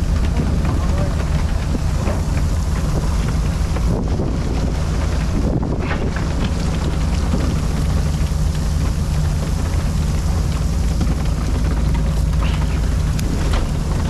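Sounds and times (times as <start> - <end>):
boat engine droning: 0.0 - 14.0
wind buffeting microphone: 0.0 - 14.0.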